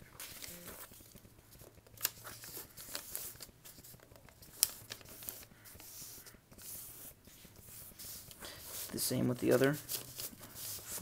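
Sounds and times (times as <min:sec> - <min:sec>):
paper rustling and crinkling: 0:00.0 - 0:11.0
sharp paper crackle: 0:00.2 - 0:06.7, 0:08.0 - 0:11.0.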